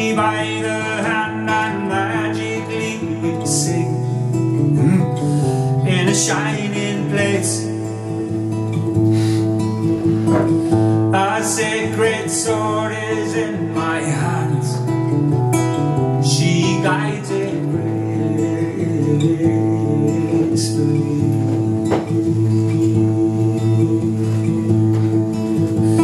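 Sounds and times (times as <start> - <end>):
acoustic guitar chords: 0.0 - 26.0
man singing folk song: 0.0 - 26.0.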